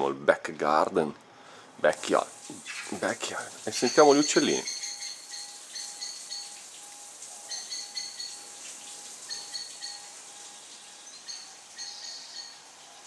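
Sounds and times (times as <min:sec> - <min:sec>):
songbirds chirping: 0:01.0 - 0:13.0.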